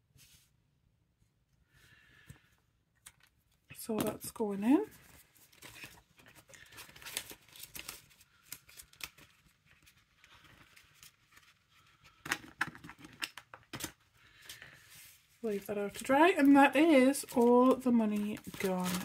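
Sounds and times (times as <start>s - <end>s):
banknotes and plastic rustling: 3.1s - 19.0s.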